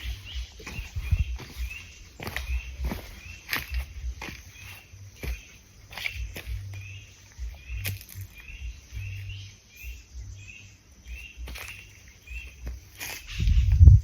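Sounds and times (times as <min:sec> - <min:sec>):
footsteps thumping: 0:00.0 - 0:08.8, 0:11.3 - 0:14.0.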